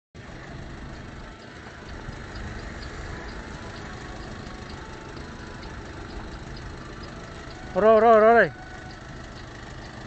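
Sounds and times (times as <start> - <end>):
boat engine idling: 0.2 - 10.0.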